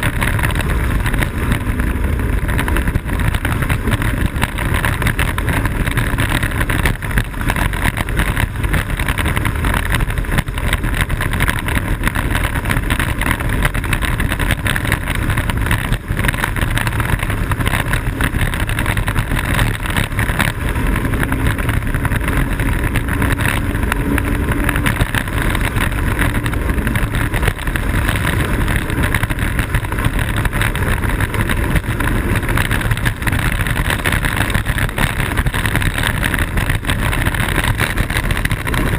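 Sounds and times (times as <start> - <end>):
small wheels rolling on pavement: 0.0 - 38.9
wind rushing on microphone: 0.0 - 38.9.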